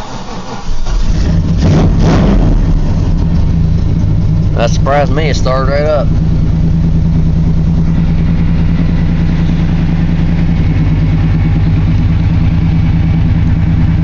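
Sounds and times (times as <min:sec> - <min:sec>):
truck engine idling loudly: 0:00.0 - 0:14.0.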